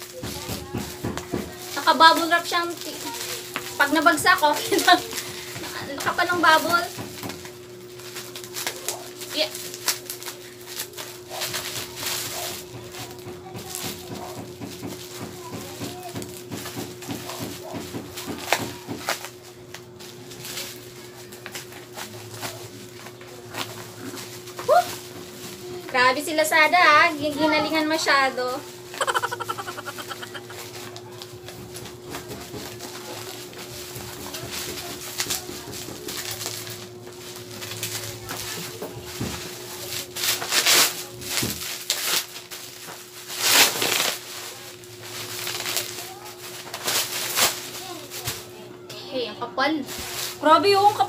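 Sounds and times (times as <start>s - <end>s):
scissors cutting plastic: 0.0s - 25.9s, 28.9s - 48.4s
bubble wrap crinkling: 0.0s - 48.6s, 49.7s - 51.0s.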